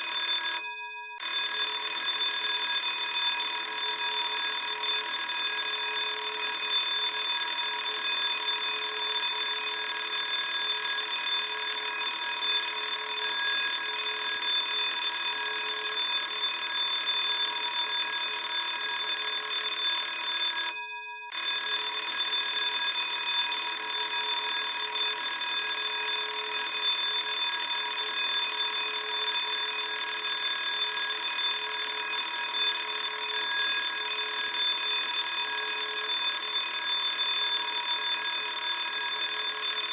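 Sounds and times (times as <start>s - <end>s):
electric school bell ringing: 0.0s - 39.9s.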